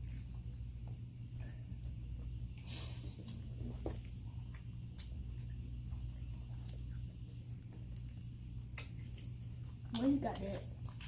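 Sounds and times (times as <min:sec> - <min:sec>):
chewing food: 0:00.0 - 0:11.0
steady low hum: 0:00.0 - 0:11.0.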